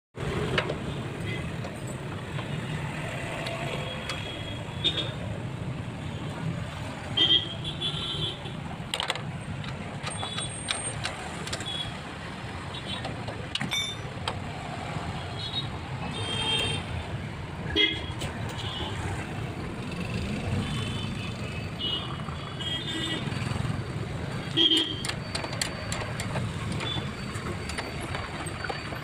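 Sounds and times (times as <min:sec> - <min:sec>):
road traffic rumble: 0:00.2 - 0:29.0.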